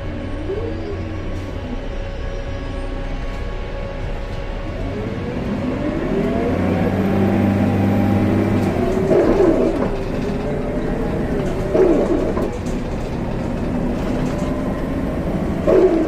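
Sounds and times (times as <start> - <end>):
bus drivetrain whine: 0.0 - 16.0.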